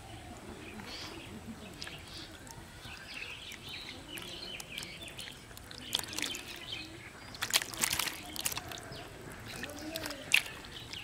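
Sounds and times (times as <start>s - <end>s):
birds chirping: 0.0s - 11.0s
fish splashing in water: 1.6s - 11.0s.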